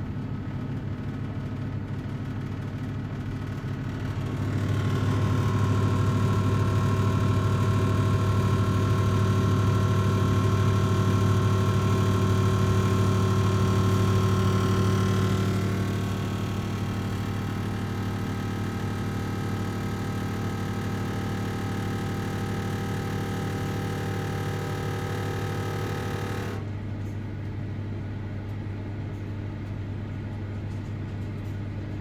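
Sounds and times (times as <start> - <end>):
microwave humming and droning: 0.0 - 32.0.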